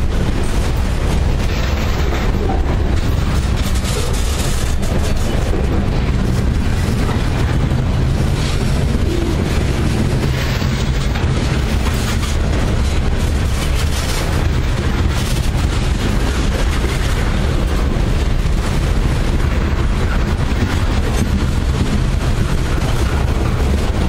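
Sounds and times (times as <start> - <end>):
train cars clattering: 0.0 - 24.0
train wheels rumbling on rails: 0.0 - 24.0.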